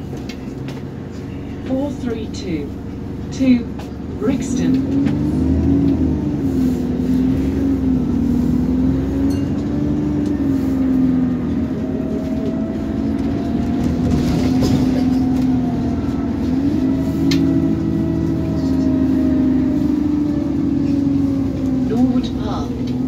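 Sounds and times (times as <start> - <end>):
bus engine drone: 0.0 - 23.0
low road rumble: 0.0 - 23.0.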